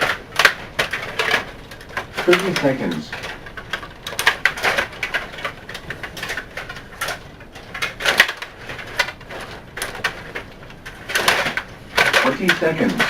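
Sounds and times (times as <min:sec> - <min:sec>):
table hockey clatter: 0:00.0 - 0:13.0.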